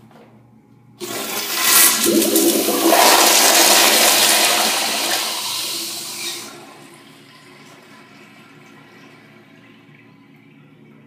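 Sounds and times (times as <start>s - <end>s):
toilet flushing: 1.0s - 11.0s.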